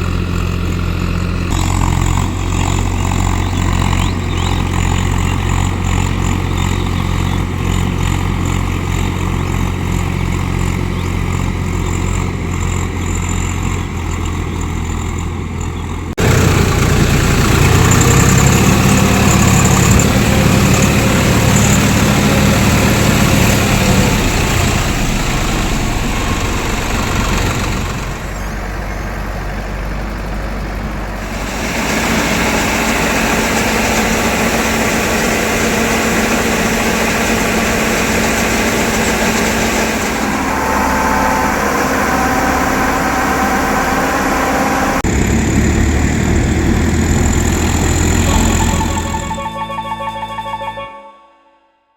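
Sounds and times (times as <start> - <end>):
heavy machinery engine under load: 0.0 - 49.4.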